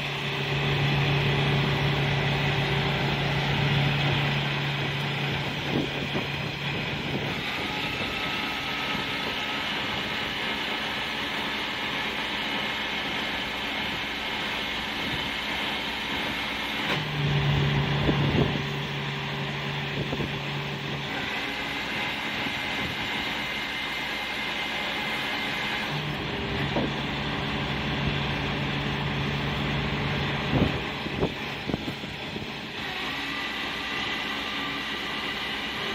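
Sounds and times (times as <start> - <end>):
diesel engine running: 0.0 - 35.9
hydraulic low hum: 0.0 - 35.9.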